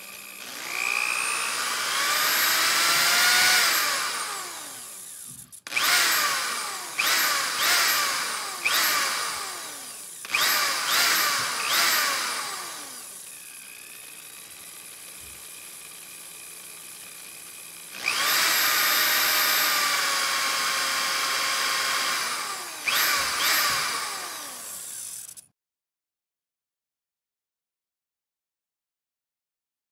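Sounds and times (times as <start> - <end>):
power drill motor spinning: 0.0 - 25.5.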